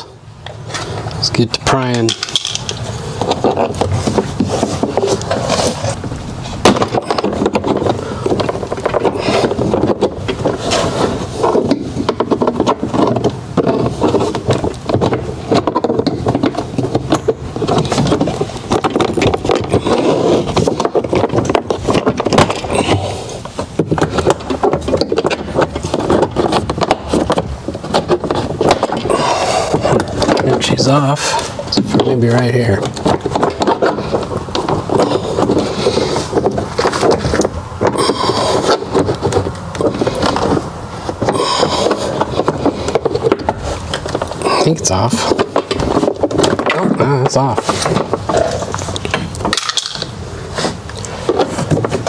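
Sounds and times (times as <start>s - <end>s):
plastic scraping: 0.0s - 52.0s.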